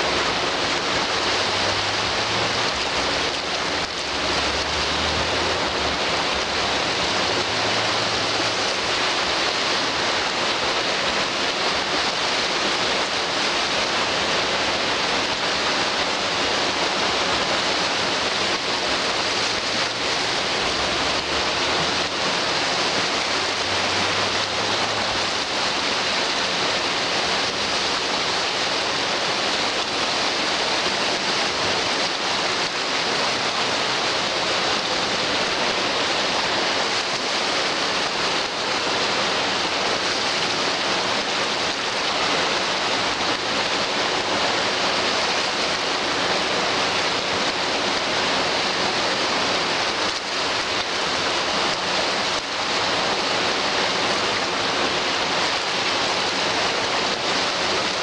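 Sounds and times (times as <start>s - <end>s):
sea waves washing over rocks: 0.0s - 58.0s.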